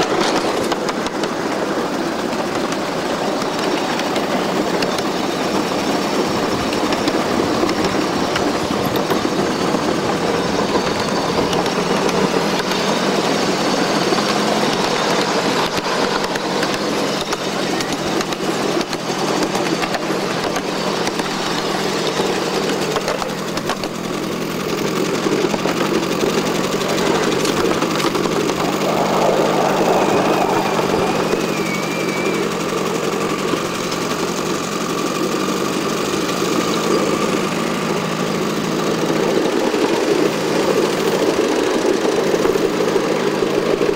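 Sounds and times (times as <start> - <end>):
train wheels rolling on rails: 0.0 - 43.9.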